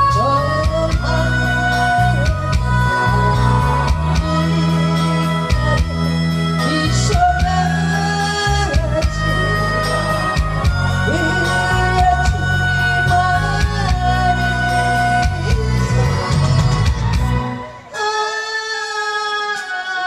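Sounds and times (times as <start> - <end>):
steady drumbeat: 0.0 - 17.5
guitar: 0.0 - 18.0
woman singing: 0.0 - 20.0.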